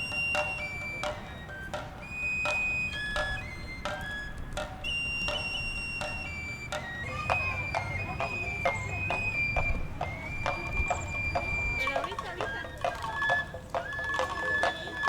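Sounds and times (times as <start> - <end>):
high held melody: 0.0 - 15.0
steady percussive beat: 0.0 - 15.0.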